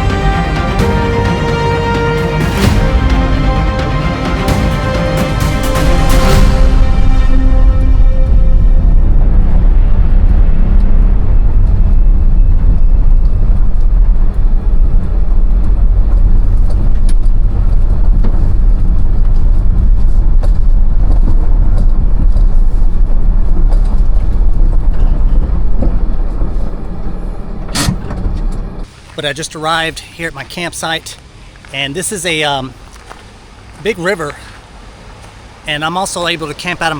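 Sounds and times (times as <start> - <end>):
pickup engine and road rumble: 0.0 - 36.9.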